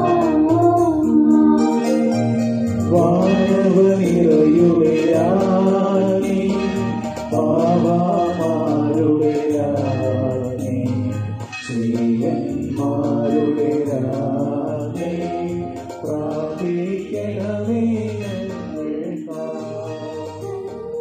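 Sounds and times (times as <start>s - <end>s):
instrumental accompaniment: 0.0s - 21.0s
person singing: 0.0s - 21.0s.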